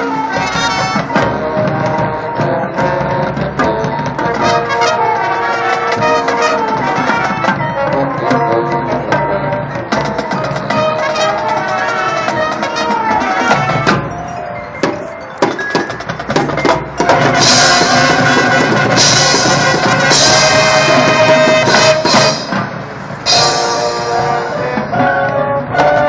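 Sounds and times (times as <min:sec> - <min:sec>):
drum-line strikes: 0:00.0 - 0:26.0
marching band playing: 0:00.0 - 0:26.0.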